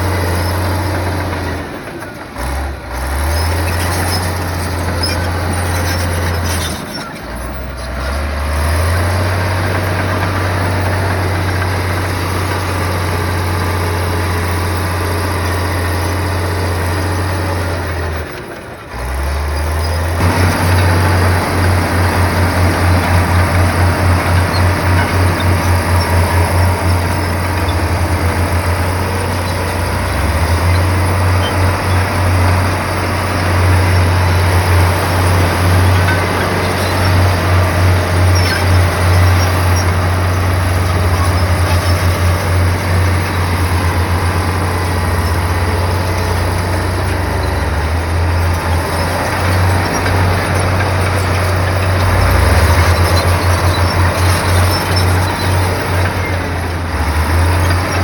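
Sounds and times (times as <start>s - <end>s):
bulldozer diesel engine throbbing: 0.0s - 58.0s.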